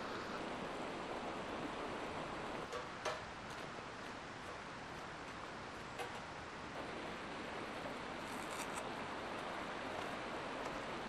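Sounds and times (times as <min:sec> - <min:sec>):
river flowing over rocks: 0:00.0 - 0:11.0.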